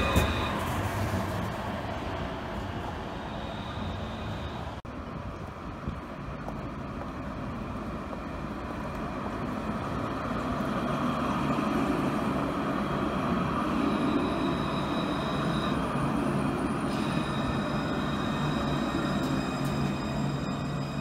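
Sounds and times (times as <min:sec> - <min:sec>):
tram wheels rumbling on rail: 0:00.0 - 0:21.0.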